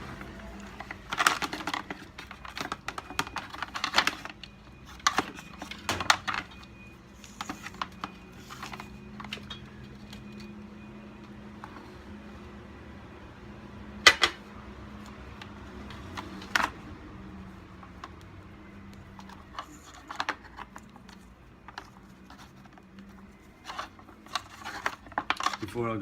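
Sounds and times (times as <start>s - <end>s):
plastic parts clicking and tapping: 0.1s - 11.8s, 14.0s - 25.8s.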